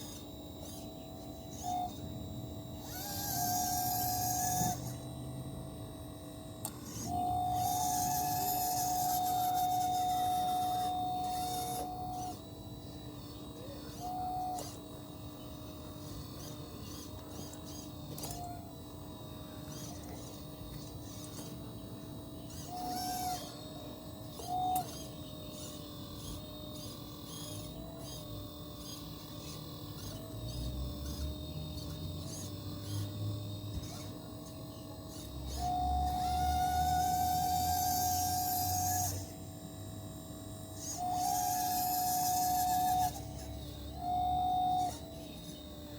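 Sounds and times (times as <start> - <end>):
toy excavator motors whining: 0.0 - 45.9.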